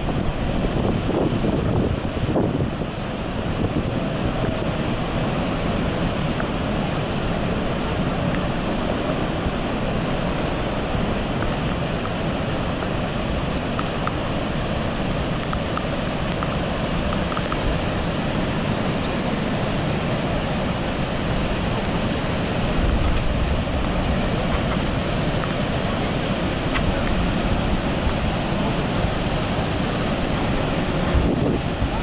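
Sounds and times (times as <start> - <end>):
waterfall roaring: 0.0 - 32.0
wind rumbling on microphone: 0.0 - 32.0.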